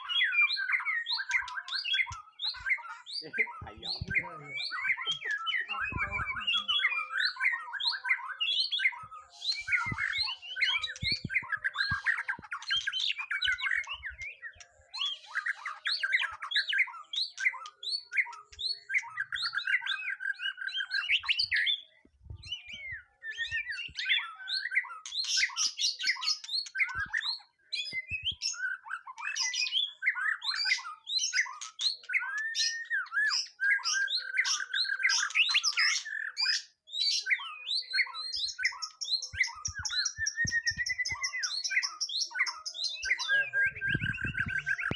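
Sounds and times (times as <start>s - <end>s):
bird singing varied whistles: 0.0s - 44.9s.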